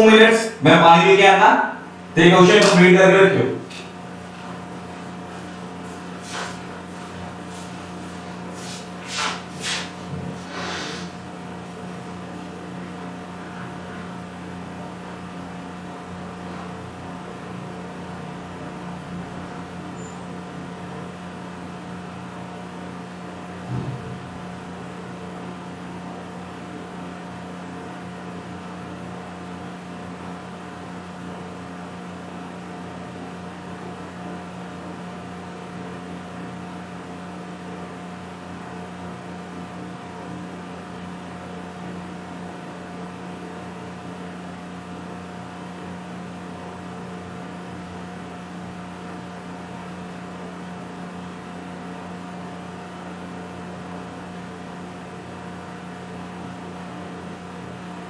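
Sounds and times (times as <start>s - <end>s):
steady background hum and hiss: 0.0s - 58.0s.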